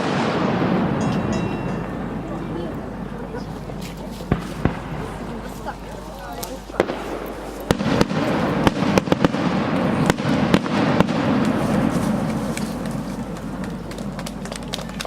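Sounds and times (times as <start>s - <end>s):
crackling firework rumble: 0.0s - 15.0s
firework bangs: 0.0s - 15.0s.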